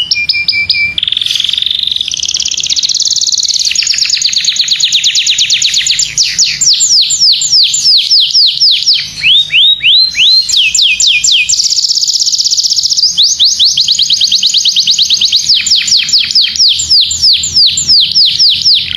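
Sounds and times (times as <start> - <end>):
canary singing: 0.0 - 18.9.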